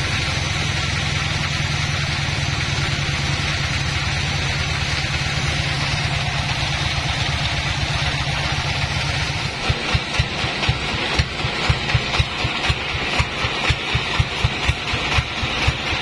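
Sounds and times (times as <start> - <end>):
band saw cutting a log: 0.0 - 16.0
low motor hum: 0.0 - 16.0.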